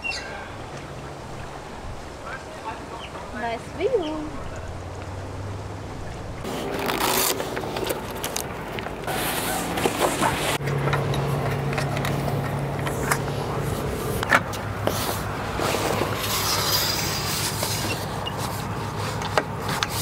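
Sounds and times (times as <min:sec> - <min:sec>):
canvas awning rustling and scraping: 0:00.0 - 0:20.0.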